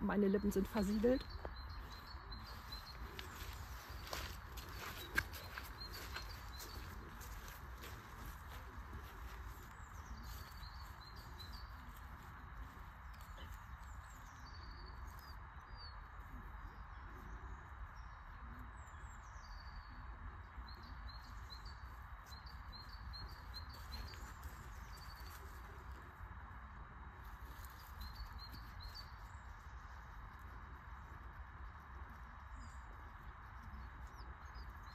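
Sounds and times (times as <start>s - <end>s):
small birds chirping: 0.0s - 26.4s, 27.1s - 34.9s.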